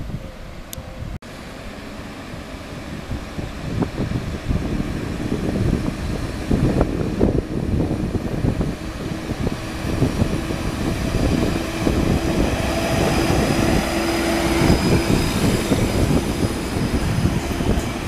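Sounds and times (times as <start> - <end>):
diesel train engine rumbling: 0.0 - 18.0.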